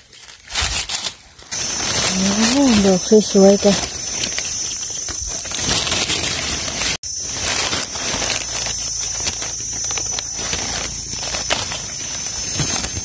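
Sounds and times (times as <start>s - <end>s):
dry leaves rustling: 0.0s - 13.0s
high insect drone: 1.5s - 13.0s.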